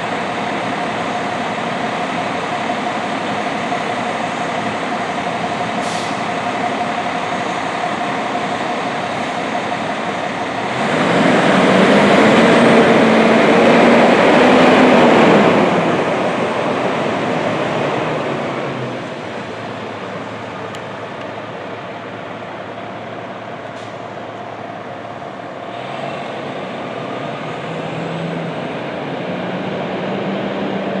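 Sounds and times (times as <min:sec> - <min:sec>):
diesel coach engine pulling away: 0:00.0 - 0:31.0.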